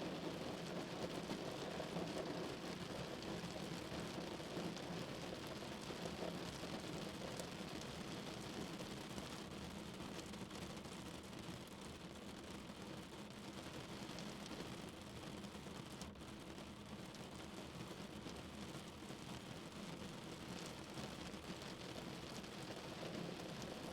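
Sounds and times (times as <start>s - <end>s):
heavy rain drumming on a car: 0.0s - 23.9s.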